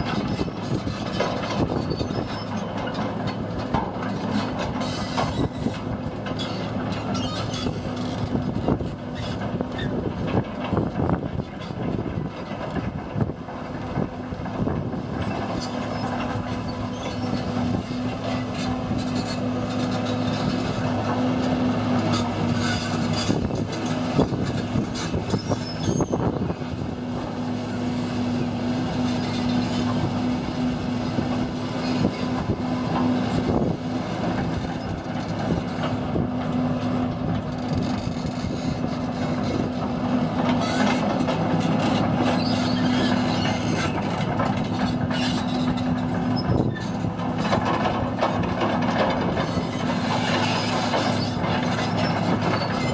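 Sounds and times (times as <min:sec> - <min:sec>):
excavator engine running: 0:00.0 - 0:52.9.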